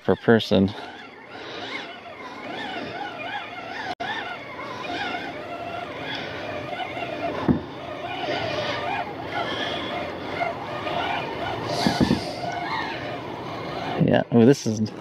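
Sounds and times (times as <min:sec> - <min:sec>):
fishing reel gear whine: 0:00.0 - 0:15.0.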